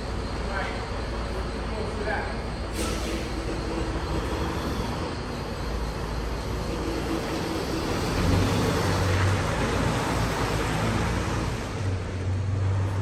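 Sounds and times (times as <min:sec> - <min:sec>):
truck diesel engine reversing: 0:00.0 - 0:13.0.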